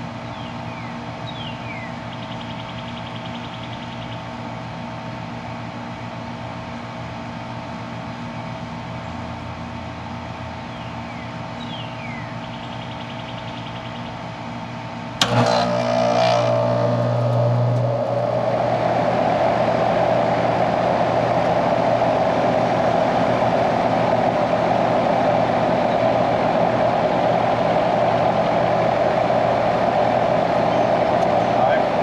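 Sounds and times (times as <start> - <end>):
air conditioner unit running: 0.0 - 32.0
steady hum: 0.0 - 32.0.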